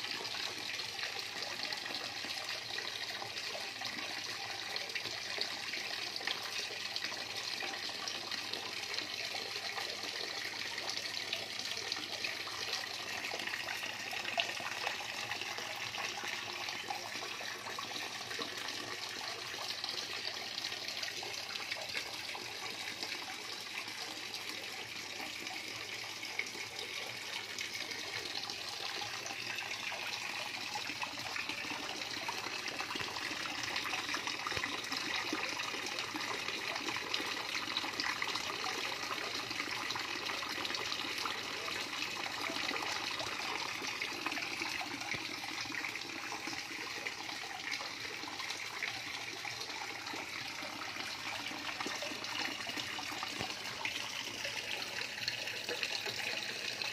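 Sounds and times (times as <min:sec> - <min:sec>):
water trickling and splashing: 0:00.0 - 0:56.9.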